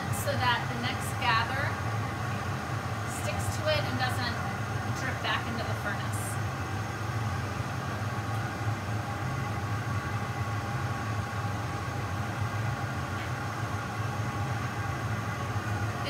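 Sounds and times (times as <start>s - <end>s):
electric fans running: 0.0s - 16.0s
gas furnace roaring: 0.0s - 16.0s.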